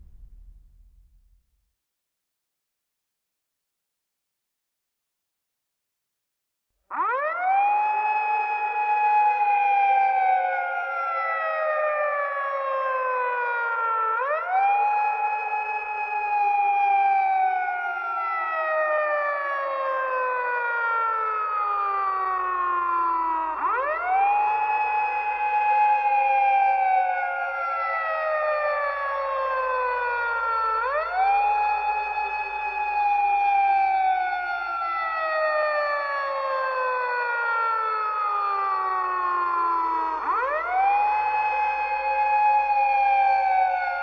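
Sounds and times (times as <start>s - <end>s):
multi-tone siren wailing: 6.9s - 44.0s.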